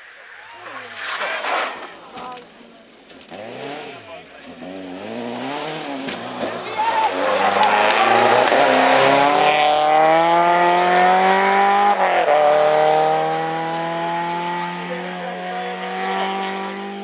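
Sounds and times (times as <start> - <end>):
car engine accelerating hard: 0.6 - 17.0.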